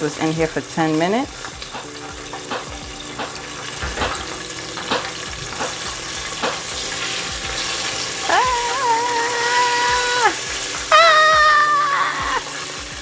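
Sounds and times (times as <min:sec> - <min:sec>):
chicken deep-frying in oil: 0:00.0 - 0:13.0
oil popping and crackling: 0:00.0 - 0:13.0.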